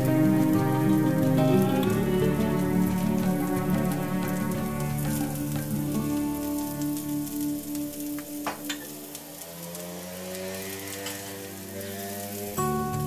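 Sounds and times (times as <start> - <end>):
background music: 0.0 - 13.0
food sizzling in hot oil: 0.0 - 13.0.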